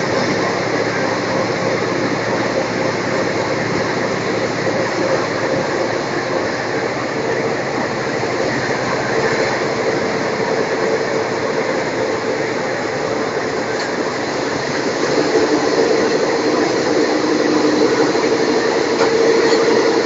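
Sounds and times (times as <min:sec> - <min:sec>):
train running noise inside carriage: 0:00.0 - 0:20.0.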